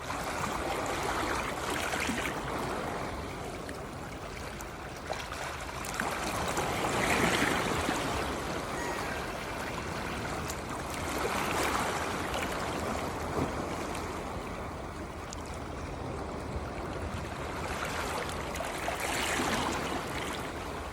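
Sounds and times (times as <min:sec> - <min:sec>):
sea waves washing in: 0:00.0 - 0:20.9.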